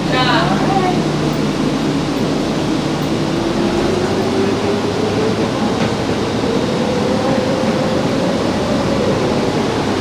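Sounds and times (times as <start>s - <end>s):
bus engine rumble: 0.0s - 10.0s
rising drivetrain whine: 0.0s - 10.0s.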